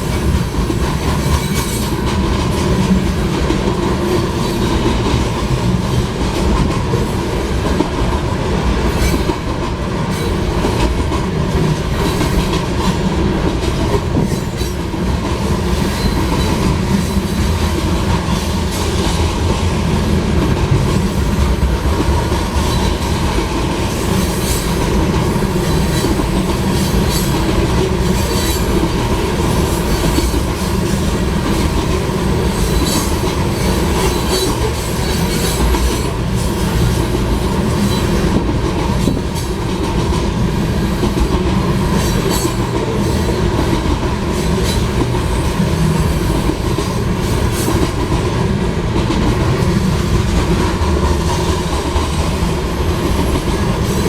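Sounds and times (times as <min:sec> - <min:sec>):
heavy rumble of train wheels: 0:00.0 - 0:54.0.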